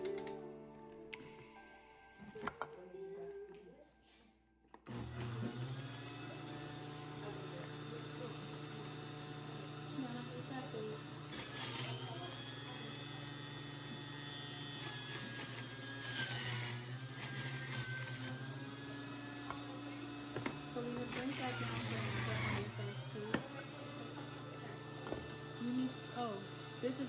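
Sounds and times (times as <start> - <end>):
juice extractor motor hum: 4.8 - 27.0.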